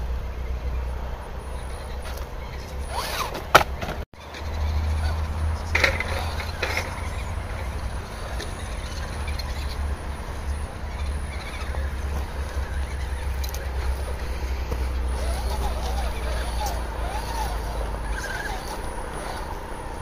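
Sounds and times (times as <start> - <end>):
toy car motor and gears: 1.7 - 3.5, 4.3 - 20.0.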